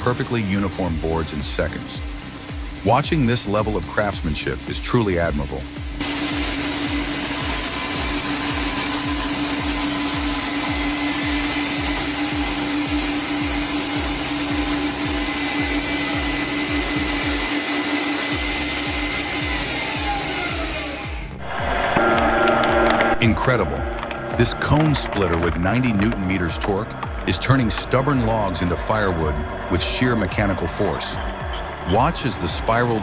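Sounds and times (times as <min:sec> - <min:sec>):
machine winding down: 0:00.0 - 0:33.0
music beat: 0:00.0 - 0:33.0
power saw whining: 0:00.0 - 0:33.0.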